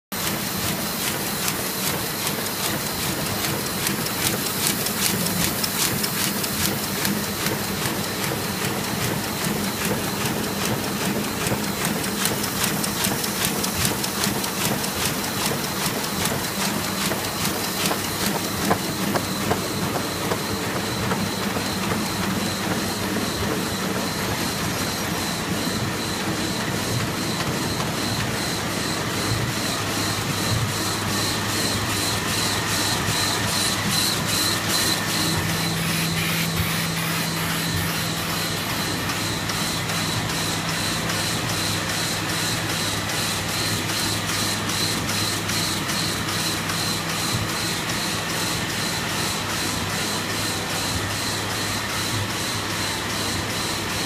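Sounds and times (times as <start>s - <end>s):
printing press hum: 0.2s - 54.0s.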